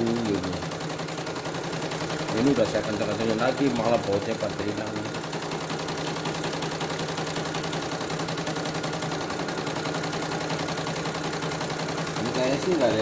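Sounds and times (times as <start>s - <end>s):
embroidery machine stitching: 0.0s - 13.0s.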